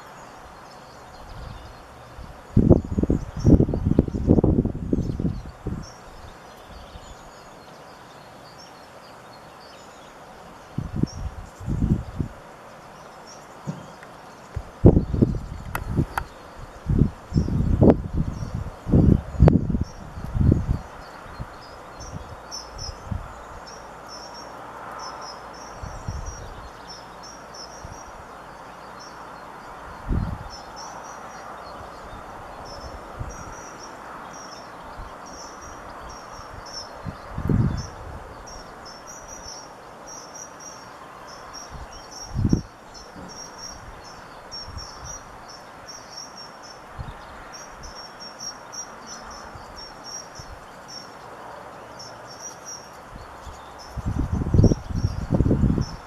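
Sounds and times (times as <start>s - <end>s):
birds twittering: 0.0s - 56.0s.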